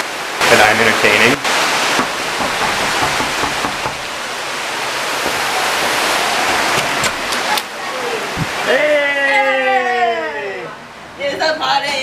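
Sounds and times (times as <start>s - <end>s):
flowing water rushing: 0.0s - 11.2s.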